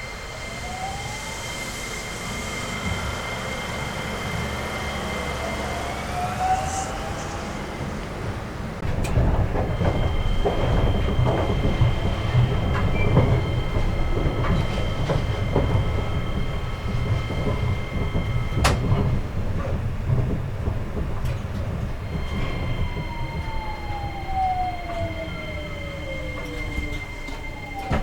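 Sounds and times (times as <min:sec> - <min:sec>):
train inverter whine: 0:00.0 - 0:28.0
train running rumble: 0:00.0 - 0:28.0
knocks under train: 0:05.6 - 0:28.0.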